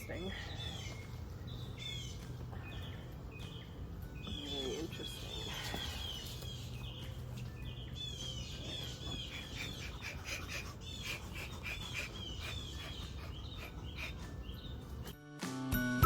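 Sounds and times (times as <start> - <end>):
songbird chirping: 0.0 - 15.1.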